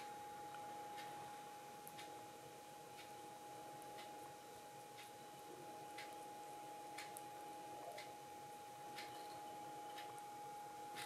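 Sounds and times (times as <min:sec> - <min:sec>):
clock ticking: 0:00.0 - 0:11.0
faint steady hum: 0:00.0 - 0:11.0.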